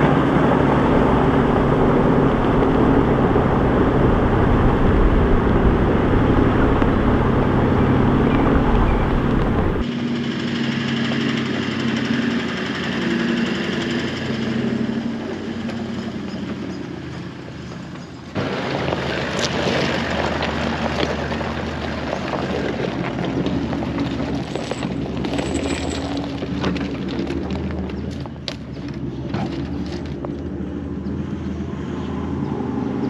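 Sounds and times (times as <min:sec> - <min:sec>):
tyre noise on dirt track: 0:00.0 - 0:33.0
vehicle engine humming: 0:00.0 - 0:33.0.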